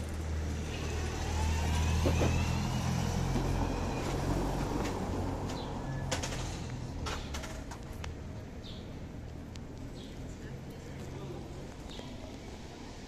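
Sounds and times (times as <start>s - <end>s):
road vehicle rumble passing: 0.0s - 13.0s.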